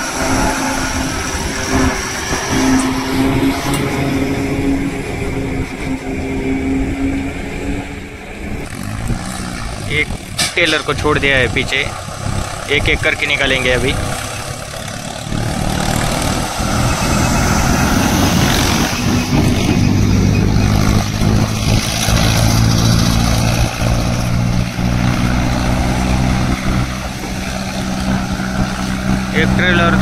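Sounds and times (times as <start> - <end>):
road traffic: 0.0 - 30.0
tractor diesel engine under load: 0.0 - 30.0
truck and cars passing: 0.0 - 30.0.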